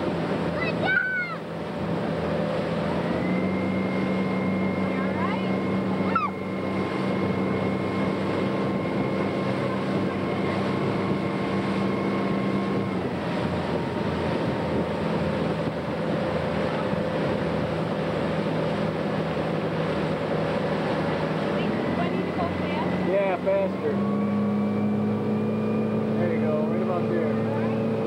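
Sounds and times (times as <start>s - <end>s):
boat engine running: 0.0s - 28.0s
water rushing: 0.0s - 28.0s
wind: 0.0s - 28.0s.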